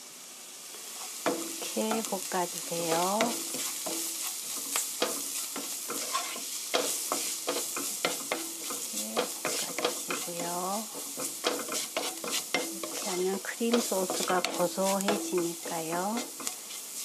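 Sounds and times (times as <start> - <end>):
vegetables sizzling in oil: 0.0 - 17.0
wooden spatula scraping pan: 2.8 - 17.0.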